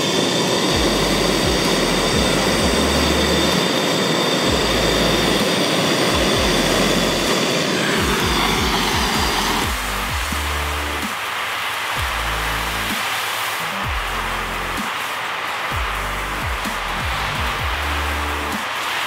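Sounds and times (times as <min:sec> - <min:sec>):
gas torch flame hissing: 0:00.0 - 0:19.0.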